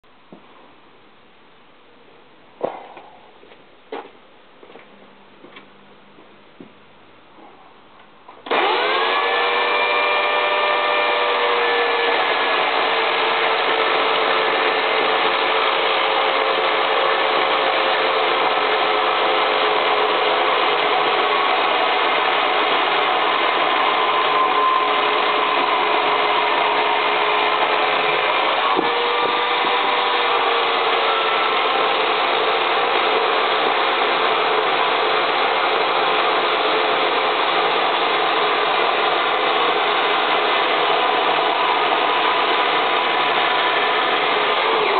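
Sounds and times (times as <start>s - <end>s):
chainsaw running: 8.4s - 44.9s.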